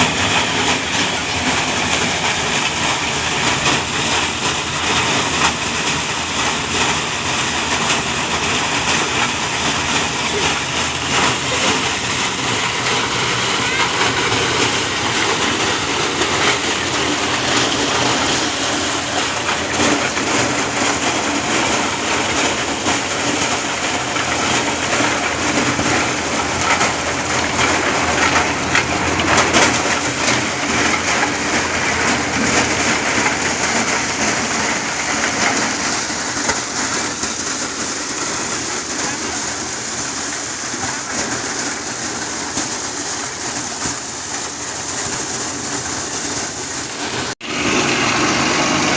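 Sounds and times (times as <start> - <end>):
corn thresher running: 0.0 - 48.9.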